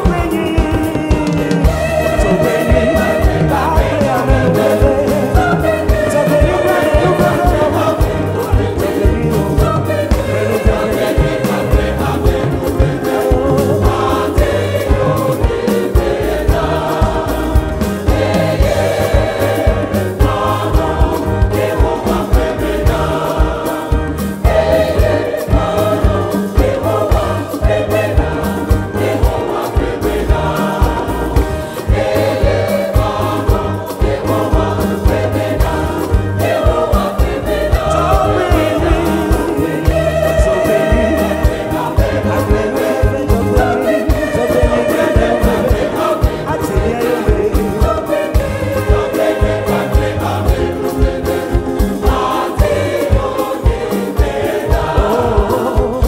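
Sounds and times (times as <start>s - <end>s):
choir singing gospel: 0.0s - 56.0s
live band playing: 0.0s - 56.0s.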